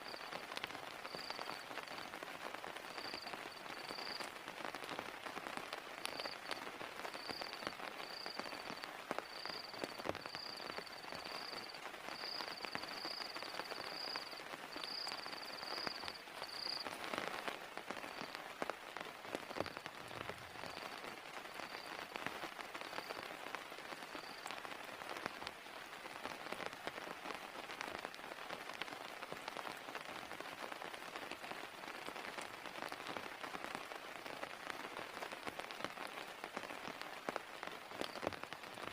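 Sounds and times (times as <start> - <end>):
heavy rain: 0.0 - 38.9
raindrops ticking close by: 0.0 - 38.9.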